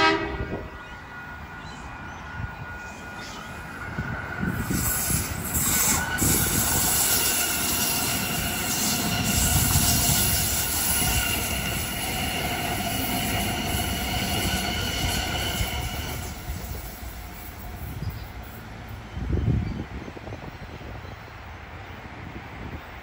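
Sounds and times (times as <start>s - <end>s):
train high whine: 0.0s - 23.0s
train wheels rumbling on rails: 0.0s - 23.0s.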